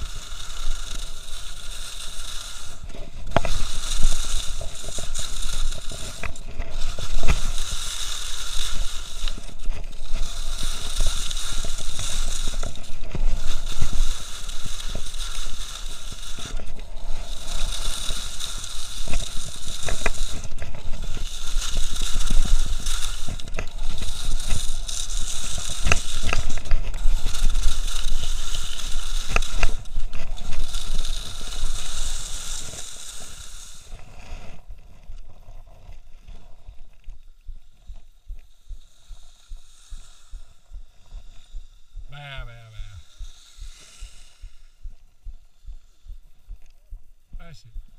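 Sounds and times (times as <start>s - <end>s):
skis scraping over snow: 0.0s - 47.9s.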